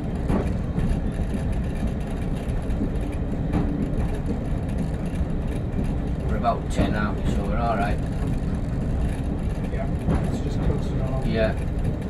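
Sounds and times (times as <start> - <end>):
diesel train running rumble: 0.0 - 12.0.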